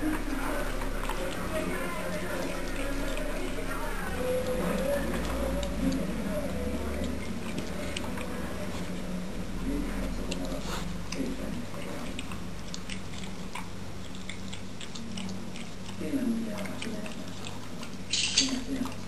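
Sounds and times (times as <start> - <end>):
dog chewing and licking: 0.0 - 19.0.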